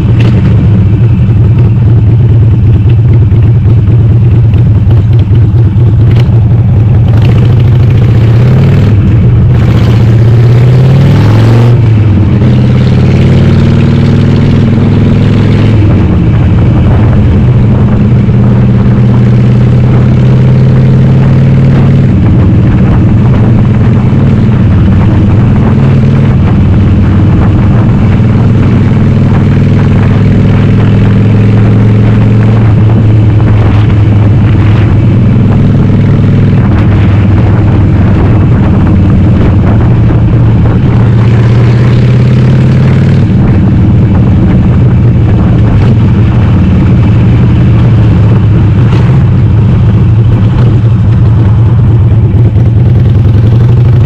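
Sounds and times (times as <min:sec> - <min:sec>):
motorcycle exhaust deep note: 0:00.0 - 0:54.0.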